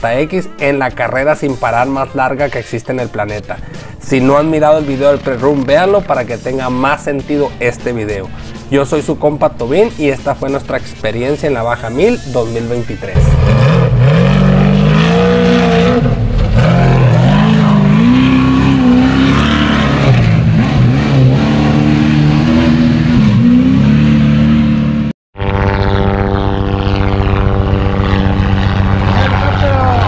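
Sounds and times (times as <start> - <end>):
steady engine drone: 2.5 - 30.0
race engine revving: 4.3 - 30.0.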